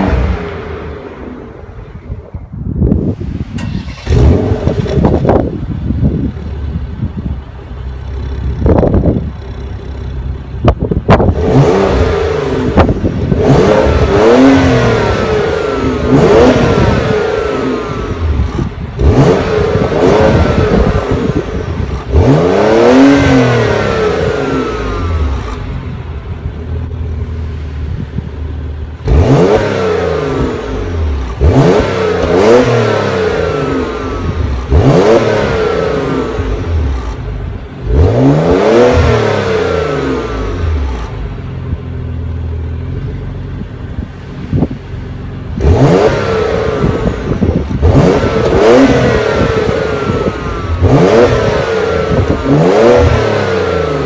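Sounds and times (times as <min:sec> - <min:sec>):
car engine revving at exhaust: 0:00.0 - 0:07.5, 0:08.1 - 0:54.0.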